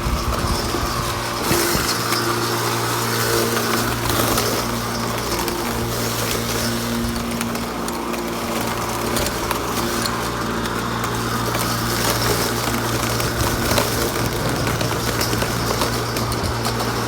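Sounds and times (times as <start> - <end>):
electric lawnmower running: 0.0 - 17.0.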